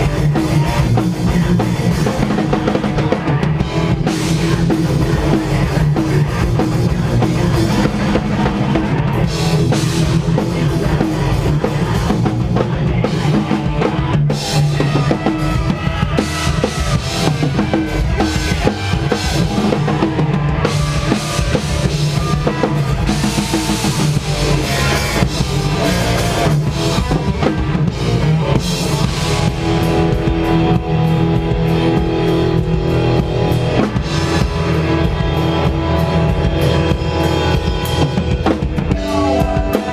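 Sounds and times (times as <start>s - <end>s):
punk band playing live: 0.0s - 39.9s.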